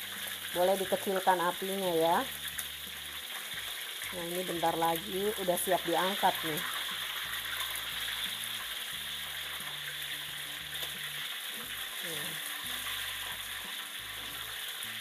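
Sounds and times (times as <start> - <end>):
chicken wings sizzling in hot oil: 0.0 - 15.0.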